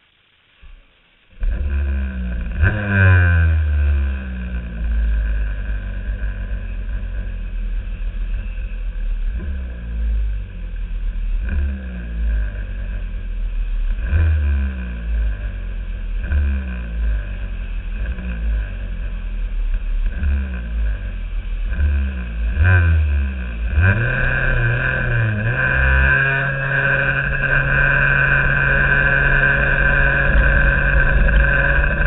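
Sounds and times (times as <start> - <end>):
kart engines revving: 1.4 - 8.6, 11.3 - 32.0.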